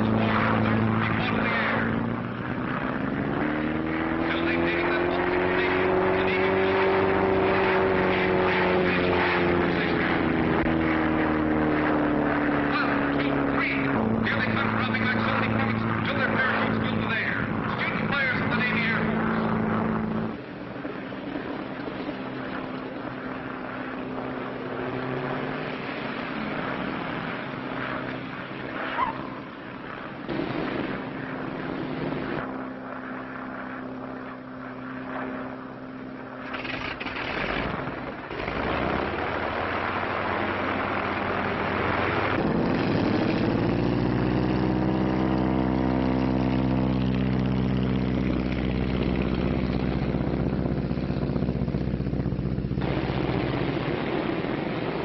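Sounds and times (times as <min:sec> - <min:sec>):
propeller airplane engines droning: 0:00.0 - 0:55.0.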